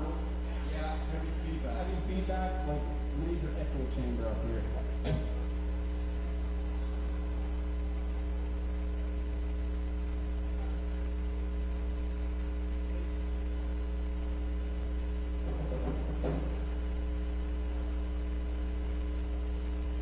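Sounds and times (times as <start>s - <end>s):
amplifier electrical hum: 0.0s - 20.0s.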